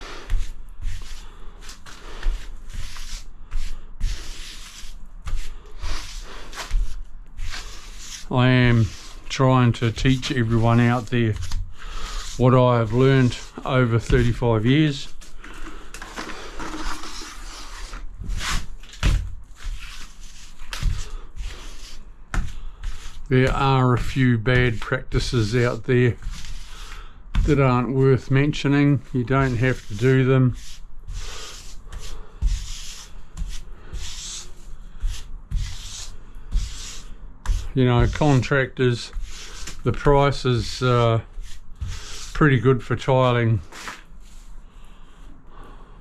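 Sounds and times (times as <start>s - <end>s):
scraping on a hard surface: 0.0s - 44.6s.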